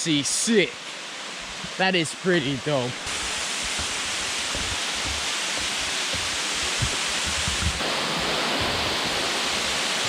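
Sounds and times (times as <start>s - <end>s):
waterfall roaring: 0.1s - 10.0s.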